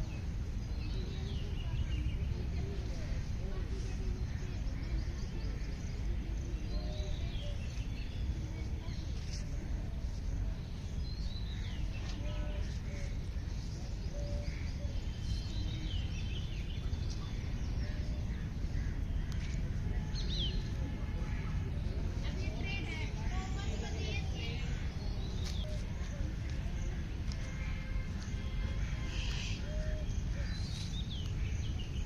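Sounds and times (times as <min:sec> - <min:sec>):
low outdoor rumble: 0:00.0 - 0:32.0
birds chirping and calling: 0:00.1 - 0:20.9, 0:21.8 - 0:32.0.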